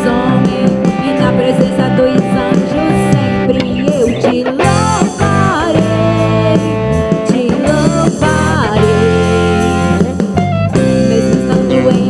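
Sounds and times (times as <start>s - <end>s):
band playing worship song: 0.0s - 12.0s
guitar lead lines bending: 0.0s - 12.0s.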